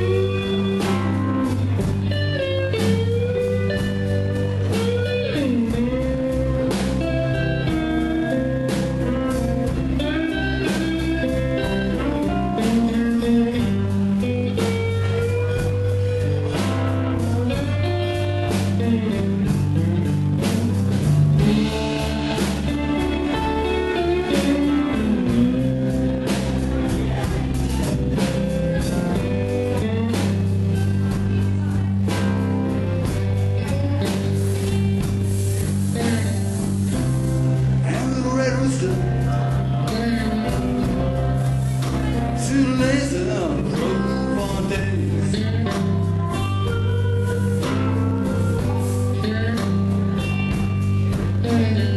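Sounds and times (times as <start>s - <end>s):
bass guitar: 0.0s - 51.9s
drums: 0.0s - 51.9s
lead guitar with gliding notes: 0.0s - 51.9s.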